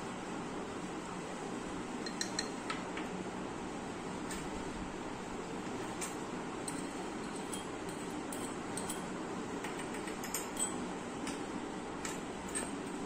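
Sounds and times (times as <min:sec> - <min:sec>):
steady room hiss: 0:00.0 - 0:13.0.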